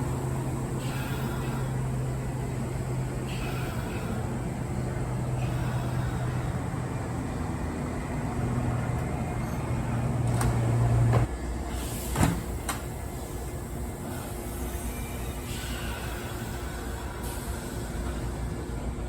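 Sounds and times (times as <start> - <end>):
electric train low hum: 0.0 - 19.0.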